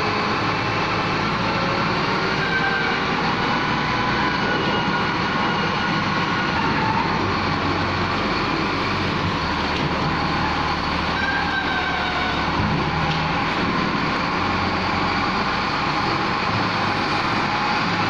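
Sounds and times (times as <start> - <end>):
wheel loader engine running: 0.0 - 18.0.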